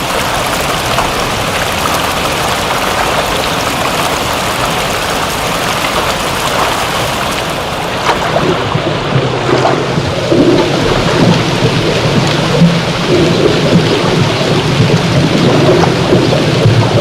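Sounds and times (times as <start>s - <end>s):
steady rain: 0.0s - 17.0s
thunder rumble: 0.0s - 17.0s.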